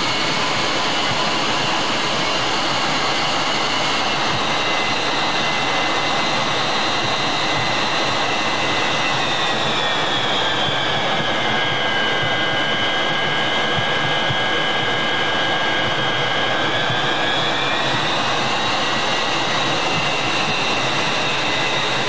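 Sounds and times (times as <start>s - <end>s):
jet engine rush and whine: 0.0s - 22.0s.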